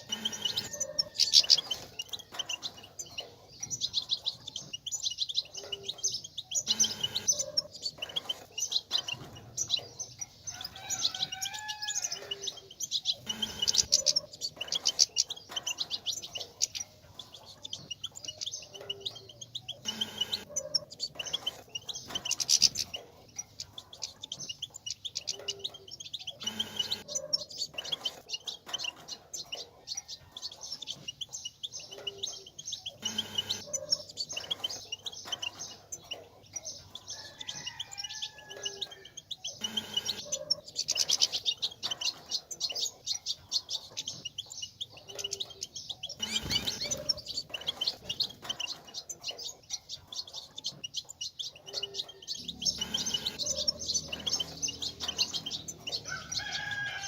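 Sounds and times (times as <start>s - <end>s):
finches twittering: 0.0s - 57.0s.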